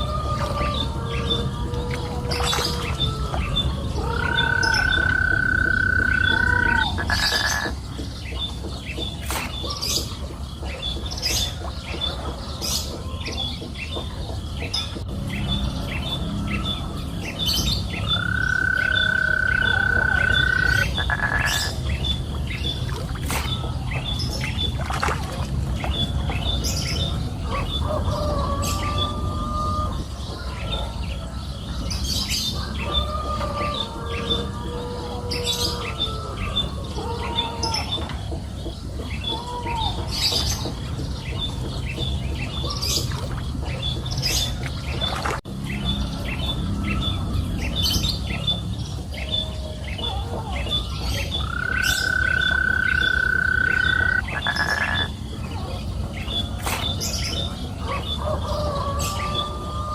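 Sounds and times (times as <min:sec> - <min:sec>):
bird chirping: 0:00.0 - 0:24.9, 0:25.8 - 0:59.7.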